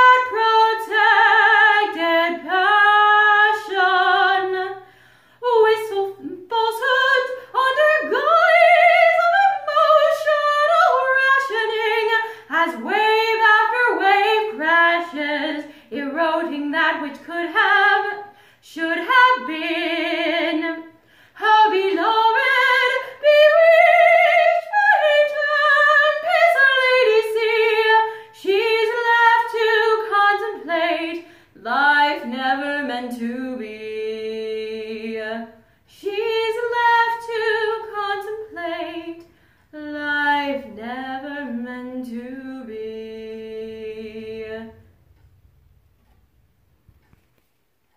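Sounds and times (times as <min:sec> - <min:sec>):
woman singing unaccompanied: 0:00.0 - 0:44.9.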